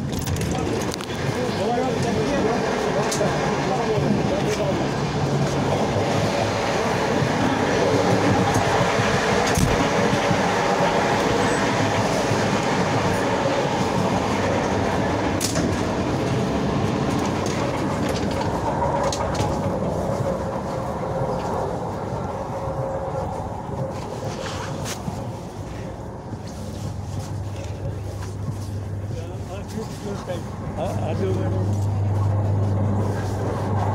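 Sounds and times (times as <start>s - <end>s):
train rumble from inside: 0.0s - 33.9s.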